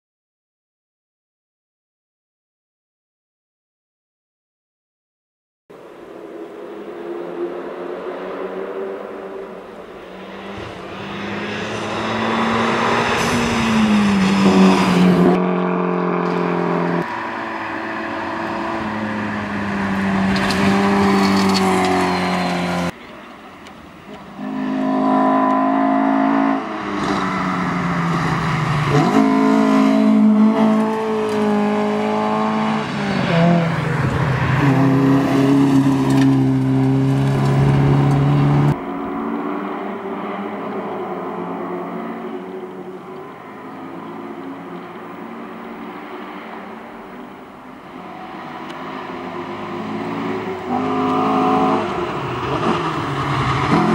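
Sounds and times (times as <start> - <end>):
car approaching and passing: 5.7 - 53.9
rally car engines revving: 5.8 - 53.9.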